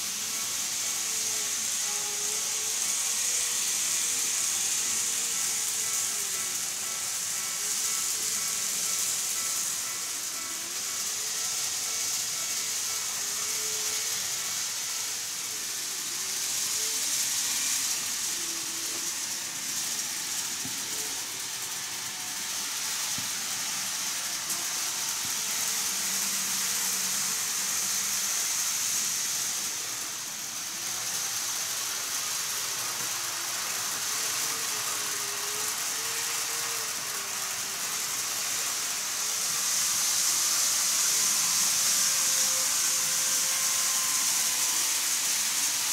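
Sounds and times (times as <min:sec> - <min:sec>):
model train wheels rolling: 0:00.0 - 0:45.9.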